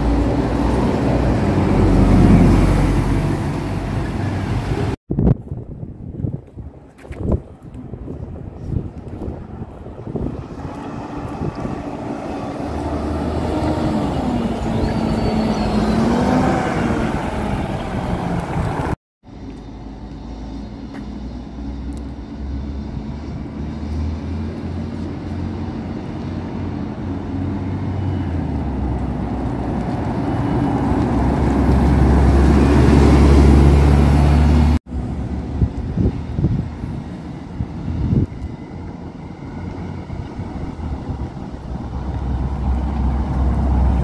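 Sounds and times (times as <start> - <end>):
bus engine passing: 0.0 - 5.0, 7.9 - 44.0
street traffic: 0.0 - 44.0.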